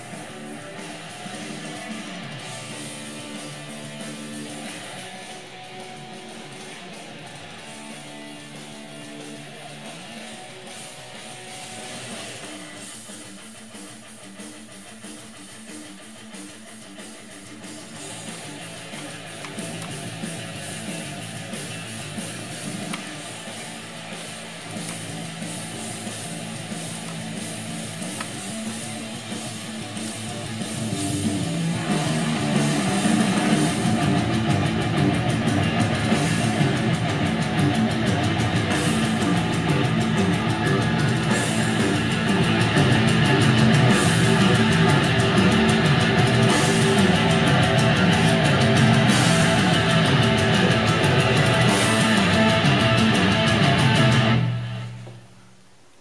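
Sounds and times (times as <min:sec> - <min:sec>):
rock music with electric guitar: 0:00.0 - 0:55.2.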